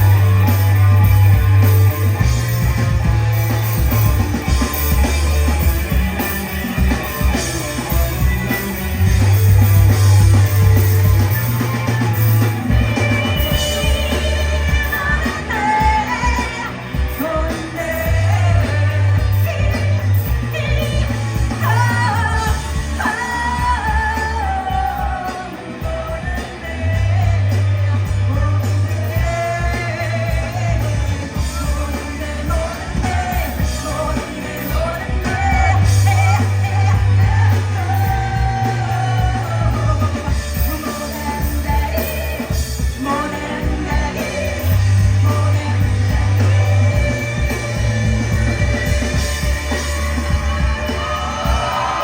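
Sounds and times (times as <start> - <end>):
bass line of low notes: 0.0 - 52.0
live rock band: 0.0 - 52.0
person singing: 0.0 - 52.0.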